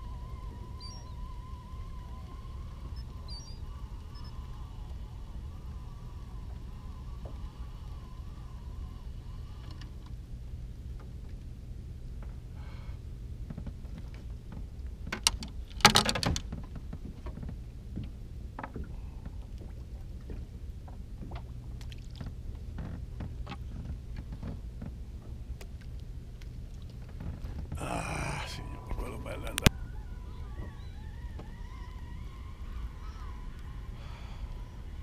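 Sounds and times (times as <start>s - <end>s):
boat motor humming: 0.0s - 15.7s, 16.8s - 35.0s.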